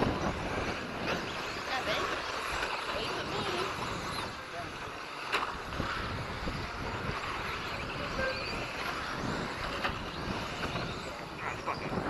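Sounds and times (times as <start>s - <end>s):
model trucks racing: 0.0s - 12.0s
wind rumble on microphone: 0.0s - 12.0s.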